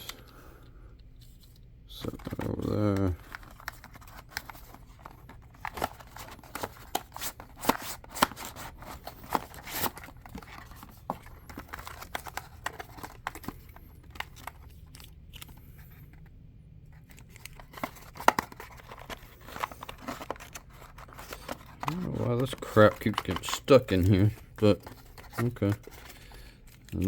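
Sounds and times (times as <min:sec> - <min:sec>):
packaging rustling and crinkling: 0:01.2 - 0:16.3, 0:16.9 - 0:27.0.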